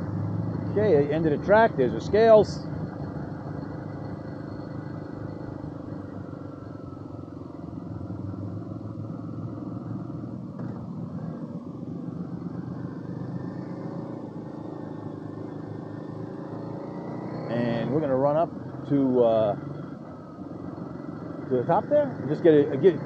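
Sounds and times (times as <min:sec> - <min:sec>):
motorbike engine running: 0:00.0 - 0:23.0
road and wind noise: 0:00.0 - 0:23.0.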